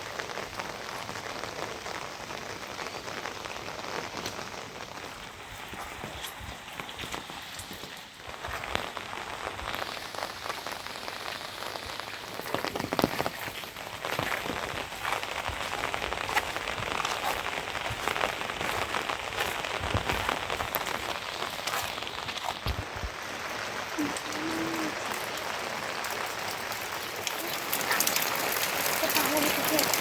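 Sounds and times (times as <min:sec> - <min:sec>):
rain drops ticking on surface: 0:00.0 - 0:30.0.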